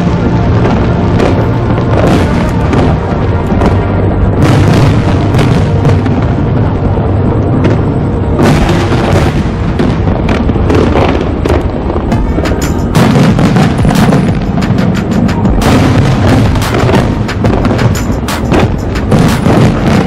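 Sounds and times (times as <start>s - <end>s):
fireworks booming: 0.0s - 20.0s
loud music: 0.0s - 20.0s.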